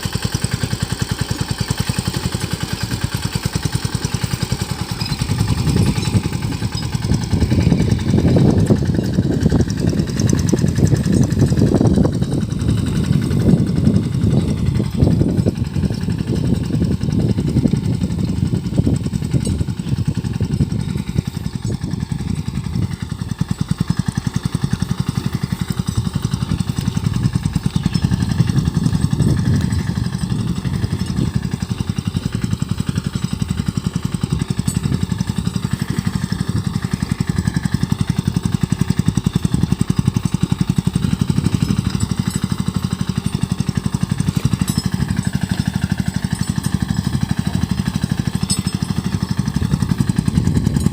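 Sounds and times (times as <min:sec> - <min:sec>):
tractor engine running steadily: 0:00.0 - 0:50.9.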